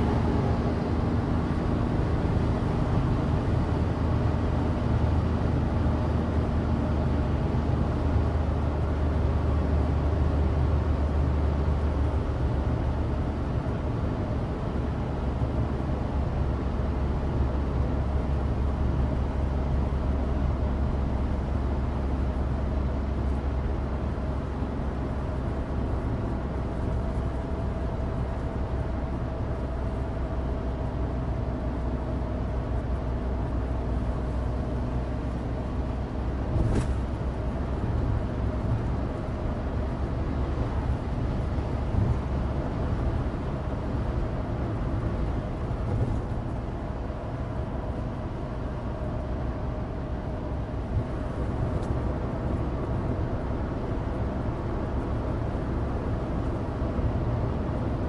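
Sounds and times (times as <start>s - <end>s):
tyre road noise: 0.0s - 58.0s.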